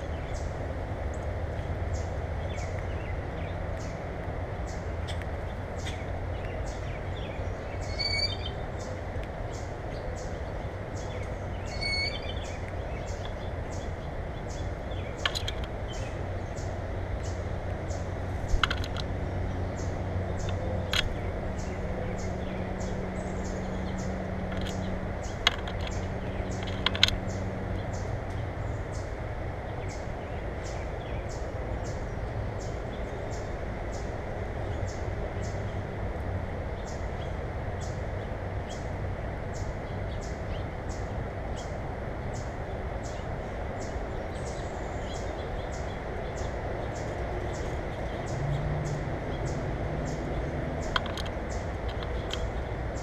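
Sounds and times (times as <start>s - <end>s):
birds chirping: 0.0s - 53.0s
low background rumble: 0.0s - 53.0s
steady low hum: 0.0s - 53.0s.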